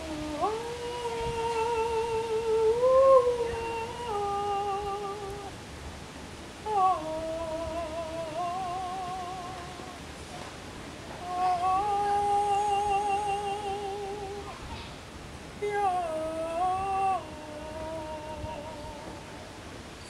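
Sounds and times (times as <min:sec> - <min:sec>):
person humming a melody: 0:00.0 - 0:05.5, 0:06.7 - 0:10.1, 0:11.1 - 0:14.6, 0:15.6 - 0:19.6.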